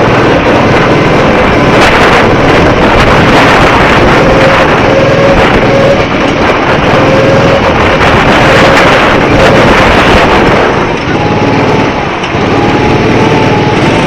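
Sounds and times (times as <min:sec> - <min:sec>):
go-kart motor whine: 0:00.0 - 0:14.0
wind noise on microphone: 0:00.0 - 0:14.0.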